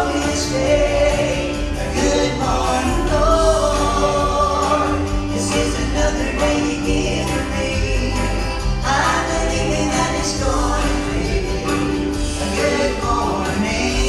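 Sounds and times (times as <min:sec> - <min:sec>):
gospel vocal group singing: 0:00.0 - 0:14.0
instrumental accompaniment: 0:00.0 - 0:14.0
steady bass: 0:00.0 - 0:14.0.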